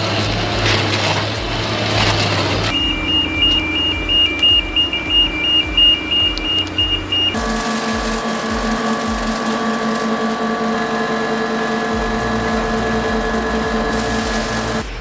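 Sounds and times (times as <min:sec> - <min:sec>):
low repeated thumping: 0:00.0 - 0:09.4, 0:11.9 - 0:15.0
shredder motor hum: 0:00.0 - 0:14.8.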